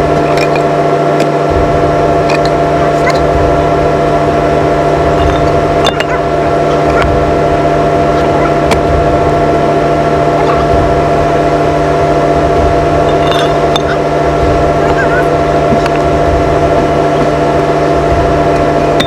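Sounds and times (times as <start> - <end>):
excavator engine hum and whine: 0.0 - 19.0
sharp knocks: 1.2 - 19.0.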